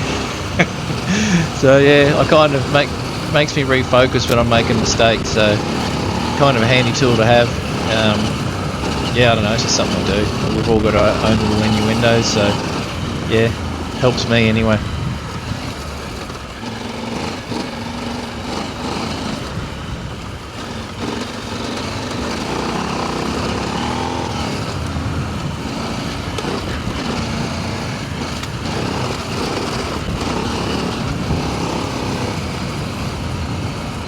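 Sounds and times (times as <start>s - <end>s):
motorcycle engine revving: 0.0s - 34.0s
steady rushing noise: 0.0s - 34.0s.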